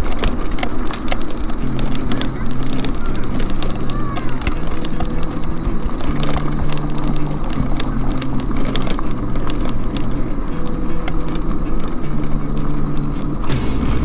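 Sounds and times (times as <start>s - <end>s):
background music with low notes: 0.0s - 14.0s
tyres crunching over gravel: 0.0s - 14.0s.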